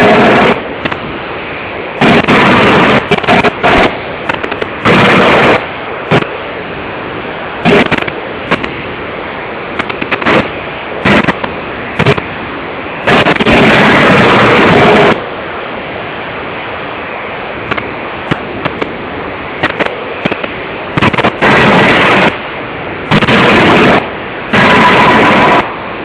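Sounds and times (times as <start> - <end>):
steady machine noise: 0.0 - 26.0.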